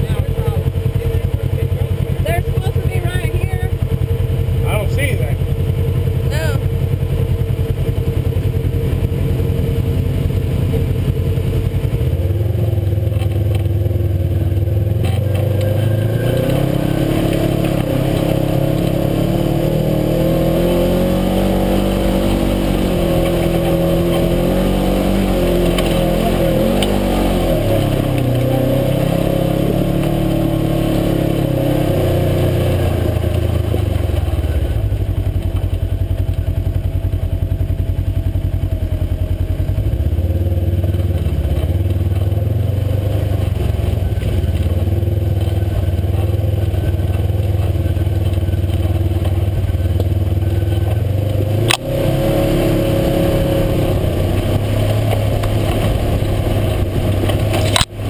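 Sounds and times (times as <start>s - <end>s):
utility vehicle engine accelerating: 0.0s - 58.0s.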